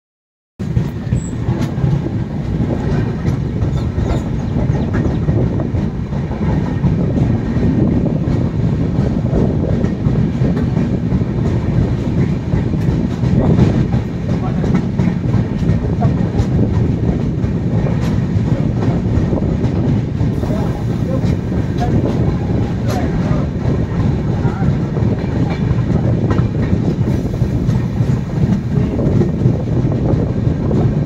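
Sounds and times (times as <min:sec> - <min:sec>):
train wheels rumbling on rails: 0:00.6 - 0:31.0.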